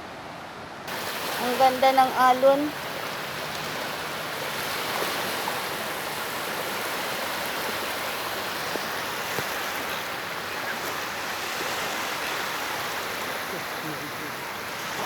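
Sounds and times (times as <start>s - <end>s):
sea waves on beach: 0.0s - 15.0s.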